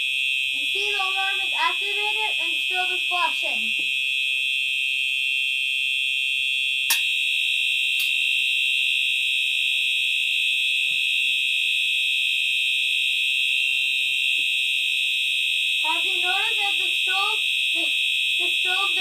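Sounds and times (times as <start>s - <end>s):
high-pitched electronic alarm tone: 0.0s - 19.0s.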